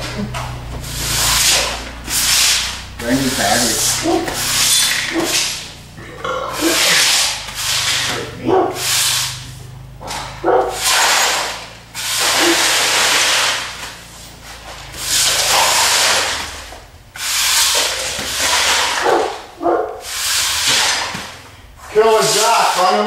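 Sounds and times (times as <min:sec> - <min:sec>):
hissing cleaning strokes on concrete: 0:00.1 - 0:23.0.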